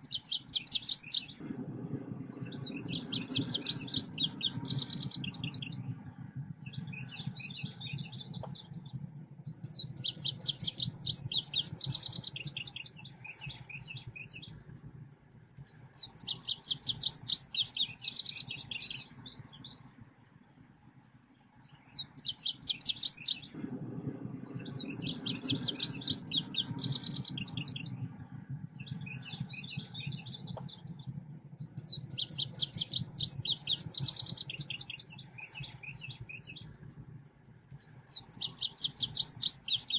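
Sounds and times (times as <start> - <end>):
songbird chattering chirps: 0.0 - 1.4, 2.3 - 14.6, 15.6 - 19.9, 21.6 - 23.6, 24.5 - 28.0, 28.7 - 36.8, 37.8 - 39.9
low hum: 0.0 - 39.9.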